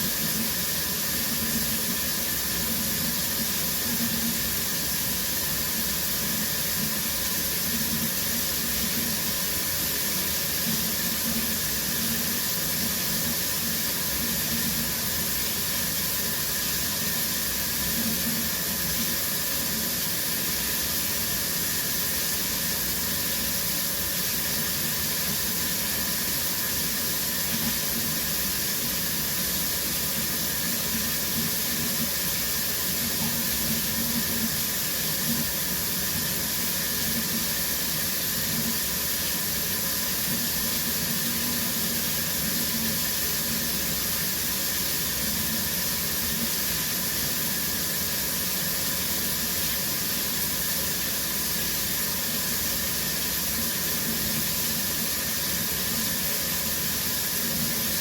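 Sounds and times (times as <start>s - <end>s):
shower running: 0.0s - 58.0s.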